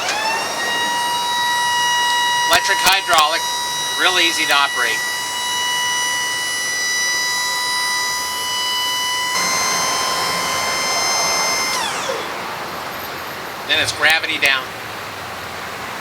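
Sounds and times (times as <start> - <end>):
hydraulic pump motor whining: 0.0 - 15.1.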